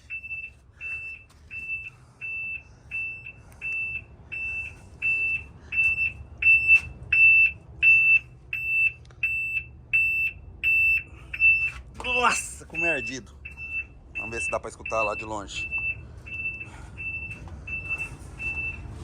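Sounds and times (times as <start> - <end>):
truck reverse alarm beeping: 0.0 - 19.0.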